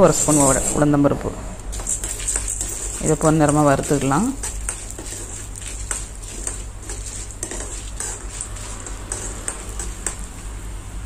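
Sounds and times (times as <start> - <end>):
steel spoon scraping iron pan: 0.0 - 0.8, 1.7 - 10.4.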